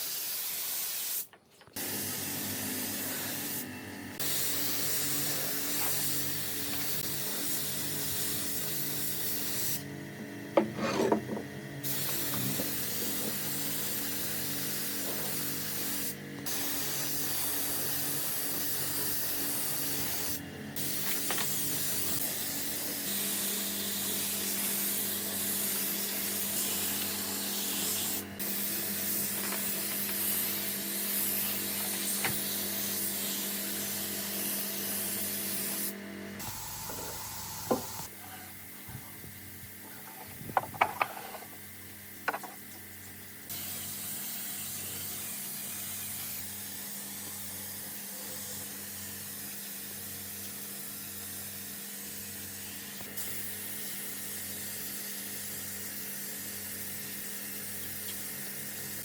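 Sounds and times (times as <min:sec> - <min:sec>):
hissing workshop noise: 0:00.0 - 0:59.0.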